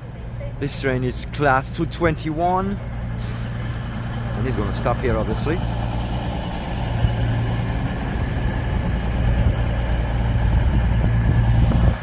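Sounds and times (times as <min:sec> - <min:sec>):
train diesel engines humming: 0:00.0 - 0:12.0.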